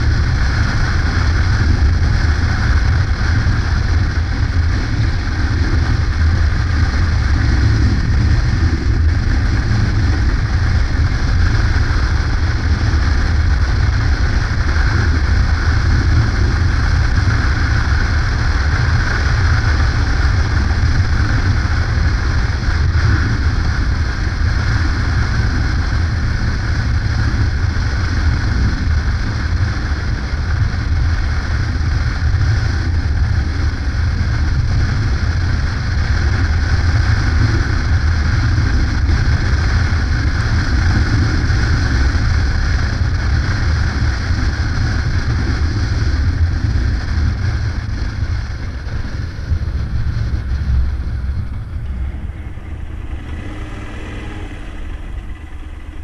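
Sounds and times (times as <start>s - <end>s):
motorcycle engine drone: 0.0s - 56.0s
wind noise on microphone: 0.0s - 56.0s.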